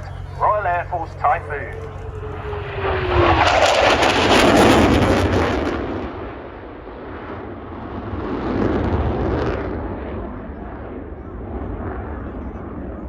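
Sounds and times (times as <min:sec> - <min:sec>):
fighter jet roar passing: 0:00.0 - 0:13.0.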